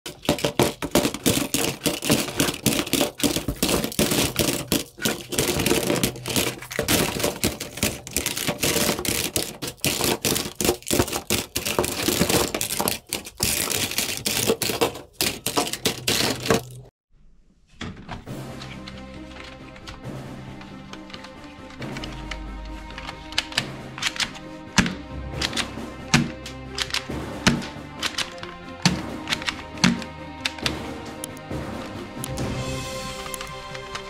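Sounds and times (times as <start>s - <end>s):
plastic toys clattering into box: 0.1s - 16.9s, 20.7s - 30.9s, 33.1s - 34.0s.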